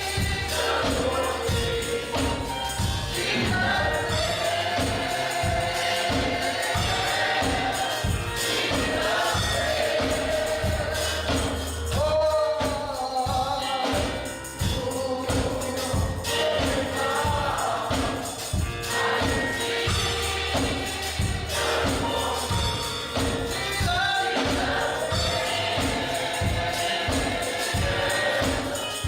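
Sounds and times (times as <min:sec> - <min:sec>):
bass line: 0:00.0 - 0:12.7, 0:13.3 - 0:28.8
gospel choir singing: 0:00.0 - 0:29.0
percussion beat: 0:00.0 - 0:29.0.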